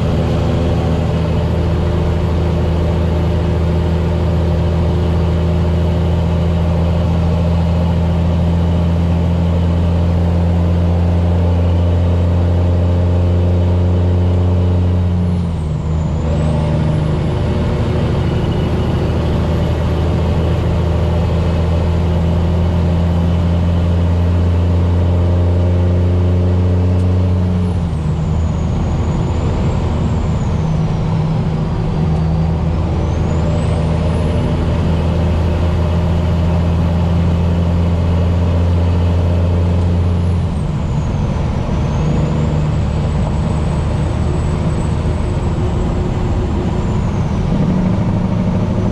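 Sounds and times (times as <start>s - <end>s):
diesel truck engine pulling: 0.0s - 48.9s.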